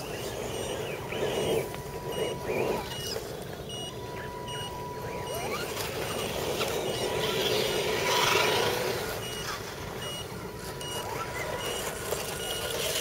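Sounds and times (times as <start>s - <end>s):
rc car motors and tyres: 0.0s - 13.0s.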